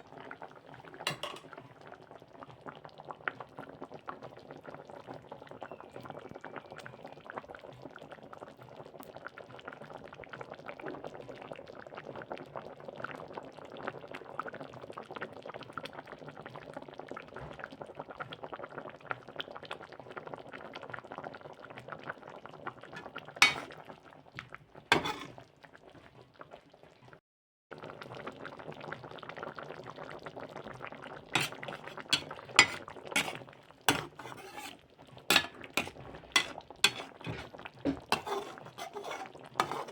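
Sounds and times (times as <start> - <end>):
food bubbling in a pan: 0.0 - 39.9.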